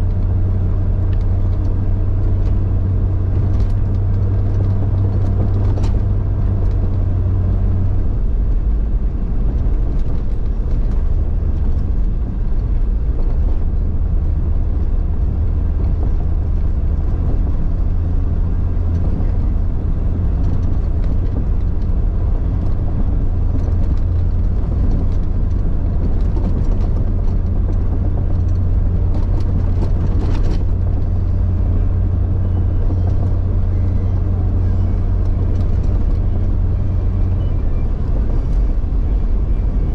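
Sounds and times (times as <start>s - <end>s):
car engine rumble while driving: 0.0s - 39.9s.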